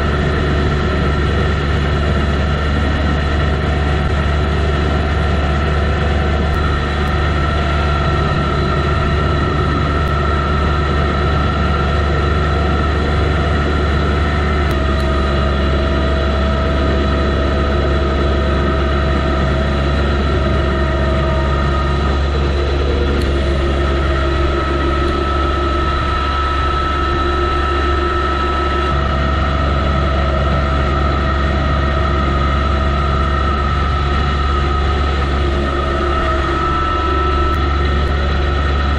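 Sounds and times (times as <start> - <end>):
snow thrower high whine: 0.0 - 38.9
tractor diesel engine hum: 0.0 - 38.9.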